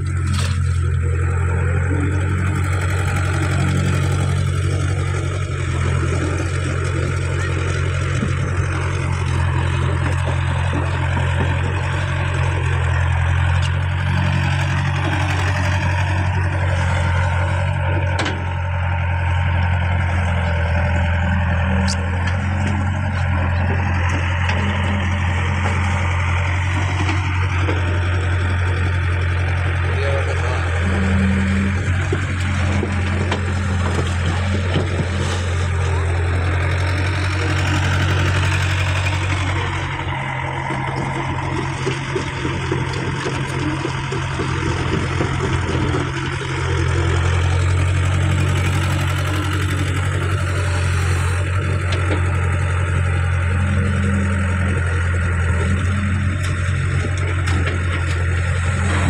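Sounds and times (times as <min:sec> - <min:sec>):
excavator diesel engine droning: 0:00.0 - 0:59.0.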